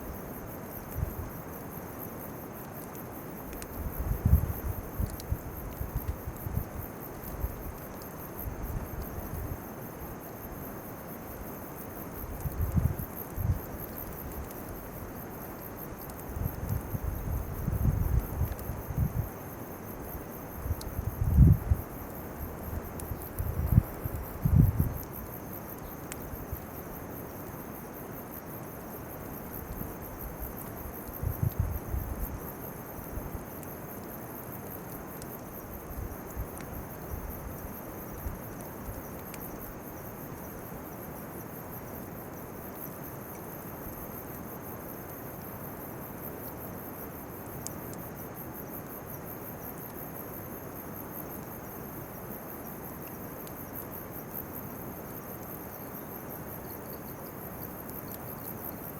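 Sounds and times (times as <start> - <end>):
faint ticks: 0.1 - 10.5, 11.3 - 41.0, 42.7 - 44.0, 46.2 - 50.3, 52.6 - 54.5, 55.2 - 58.9.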